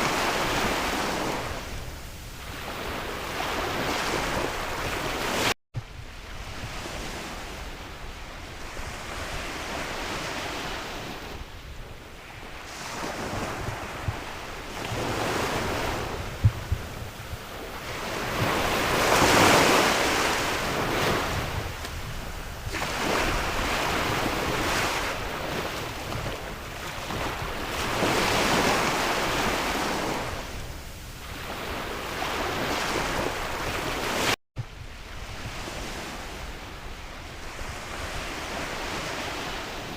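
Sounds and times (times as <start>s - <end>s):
sea waves washing onto shore: 0.0s - 39.9s
wind rumbling on microphone: 0.0s - 39.9s.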